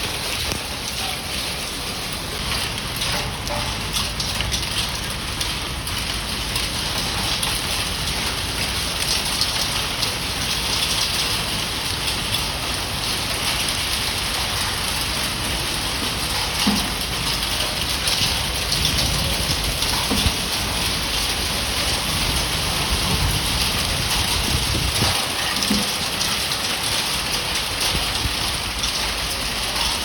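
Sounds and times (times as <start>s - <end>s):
heavy rain with hail: 0.0s - 30.0s.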